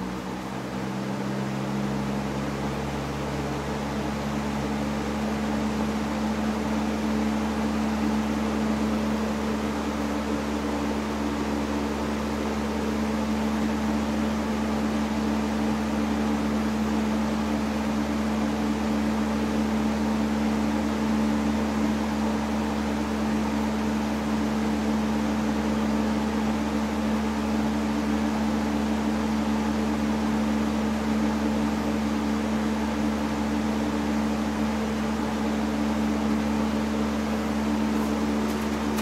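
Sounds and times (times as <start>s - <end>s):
fan air rushing: 0.0s - 39.0s
fan motor hum: 0.0s - 39.0s.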